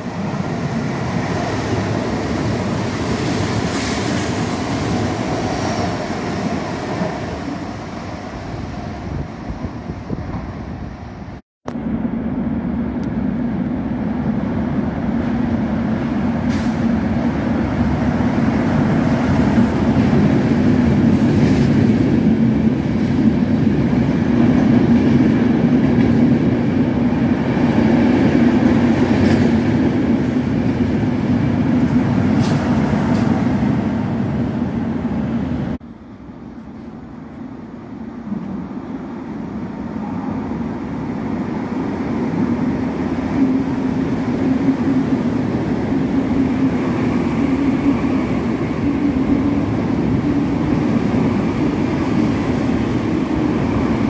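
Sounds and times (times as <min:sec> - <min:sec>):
high-speed train hum: 0:00.0 - 0:54.0
train wheels rumbling on rails: 0:00.0 - 0:54.0.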